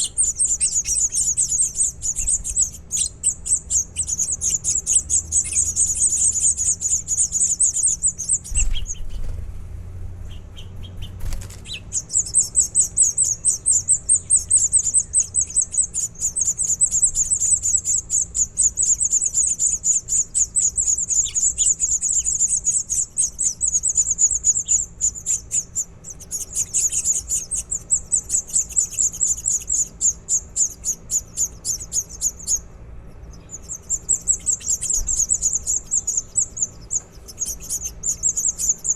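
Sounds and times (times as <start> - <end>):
nestling birds chirping: 0.0 - 38.9.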